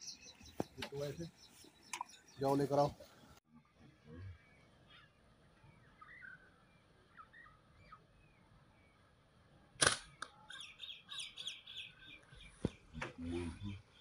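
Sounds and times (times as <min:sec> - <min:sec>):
bird chirps: 0:00.0 - 0:03.4, 0:04.1 - 0:09.1, 0:10.1 - 0:14.0.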